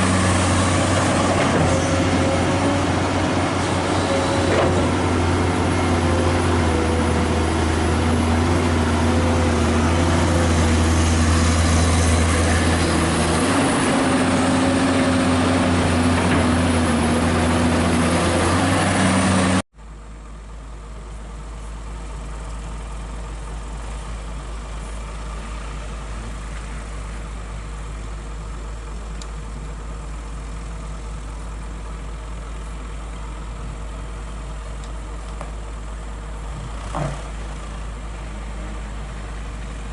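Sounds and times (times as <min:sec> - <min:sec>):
heavy diesel engine drone: 0:00.0 - 0:39.9
low engine hum: 0:00.0 - 0:39.9.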